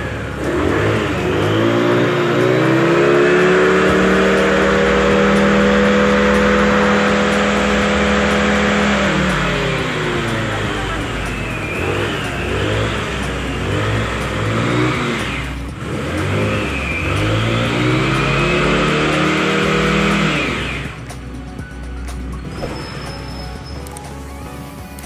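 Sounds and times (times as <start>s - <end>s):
scooter engine revving: 0.0s - 25.0s.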